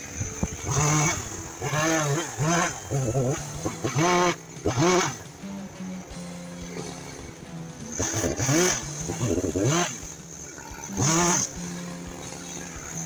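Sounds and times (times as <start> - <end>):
chainsaw idling and revving: 0.0 - 13.0.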